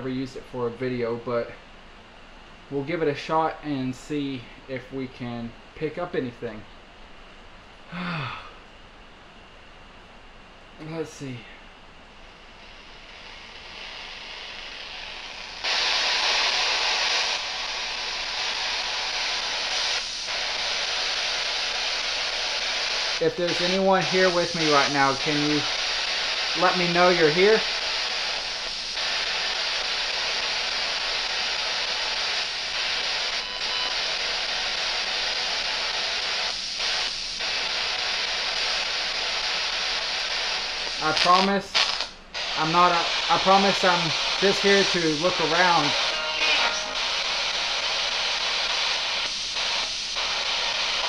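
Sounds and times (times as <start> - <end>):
radio static hiss: 0.0 - 1.6, 2.7 - 6.6, 10.8 - 11.7, 12.4 - 51.0.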